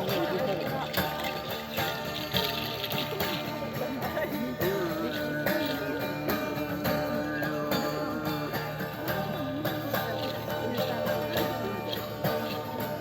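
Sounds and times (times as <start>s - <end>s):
guitar: 0.0s - 13.0s
percussion beat with jingling: 0.0s - 13.0s.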